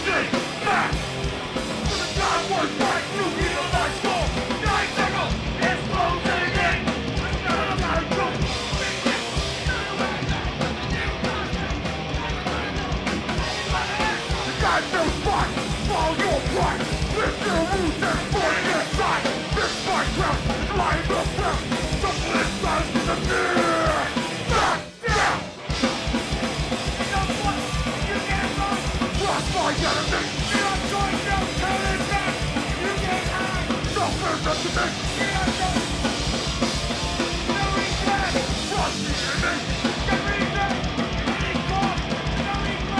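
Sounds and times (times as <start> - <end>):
drums: 0.0 - 42.9
guitars: 0.0 - 42.9
yelled vocals: 0.0 - 42.9.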